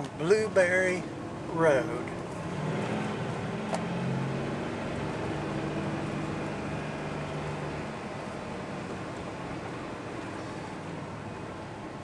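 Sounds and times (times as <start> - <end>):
truck engine hum: 0.0 - 12.0
tyre and road noise: 0.0 - 12.0.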